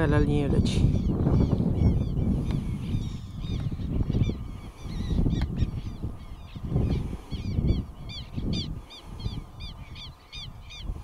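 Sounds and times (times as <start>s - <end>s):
bird calling in harsh notes: 0.5s - 11.0s.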